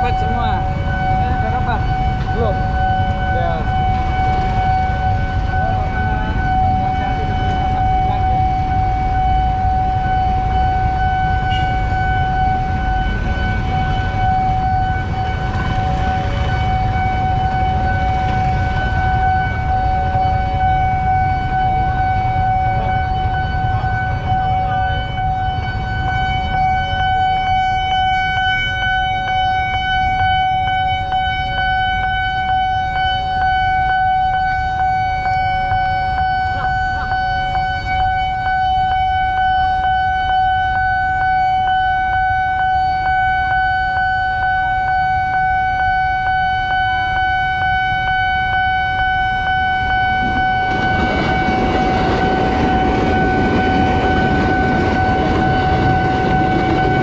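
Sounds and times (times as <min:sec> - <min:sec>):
level crossing electronic alarm: 0:00.0 - 0:57.0.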